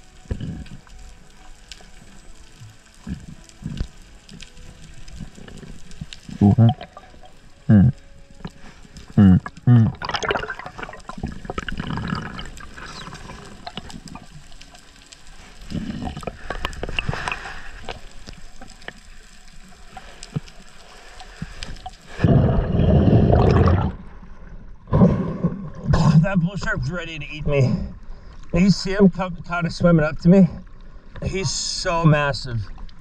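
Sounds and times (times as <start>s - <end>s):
underwater clicks and crackles: 0.0s - 33.0s
water moving underwater: 0.0s - 33.0s.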